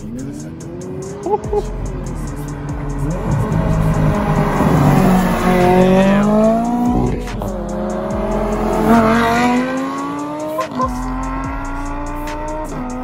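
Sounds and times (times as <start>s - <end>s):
sports car accelerating with upshifts: 0.0s - 13.0s.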